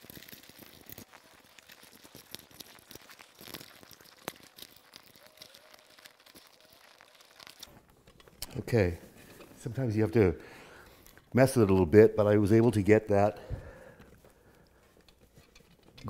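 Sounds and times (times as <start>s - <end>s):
wires rustling: 0.0s - 16.0s.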